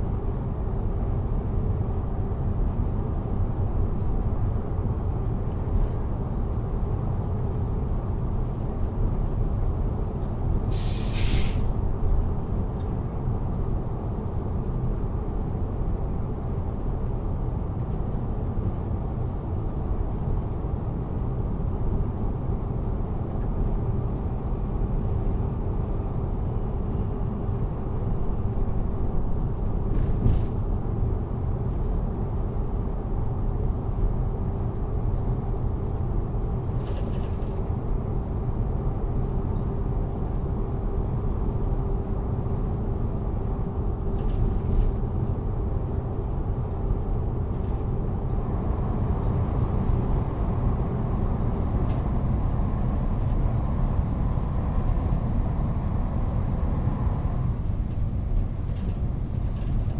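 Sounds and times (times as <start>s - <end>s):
railway car rumble: 0.0s - 59.9s.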